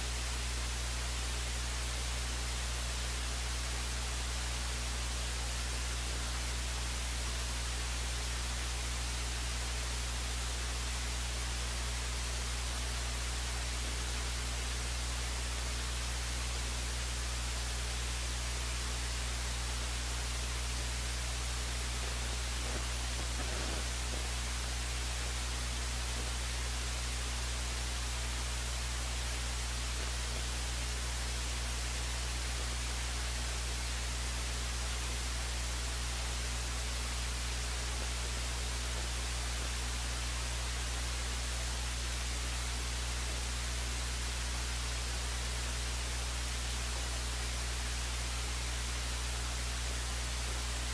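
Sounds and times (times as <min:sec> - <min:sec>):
low electrical hum: 0:00.0 - 0:50.9
static hiss: 0:00.0 - 0:50.9.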